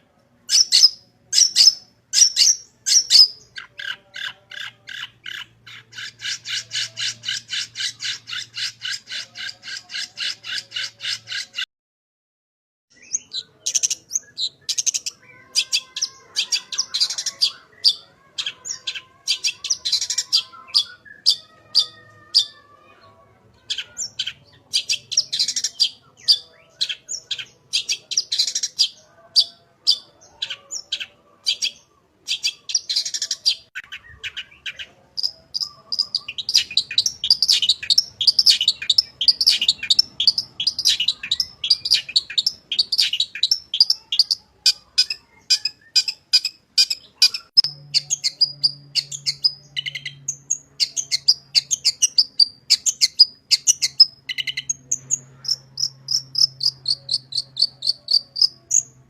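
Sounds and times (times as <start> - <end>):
shrike singing: 0.5 - 11.6, 12.9 - 59.0.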